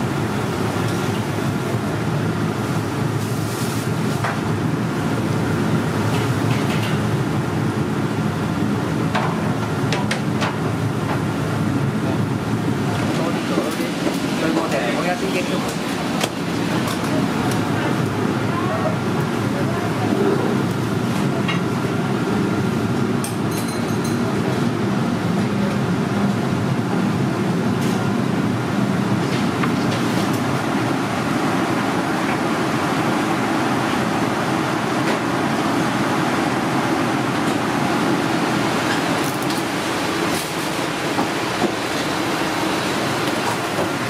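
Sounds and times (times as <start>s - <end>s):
exhaust hood fans running: 0.0s - 44.0s
wok burners roaring: 0.0s - 44.0s.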